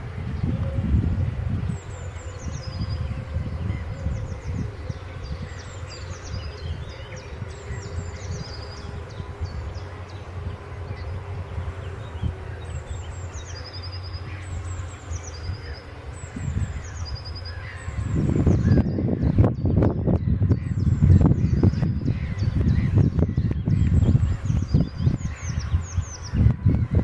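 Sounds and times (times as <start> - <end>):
birds chirping: 0.0 - 27.0
tractor rumble: 0.0 - 27.0.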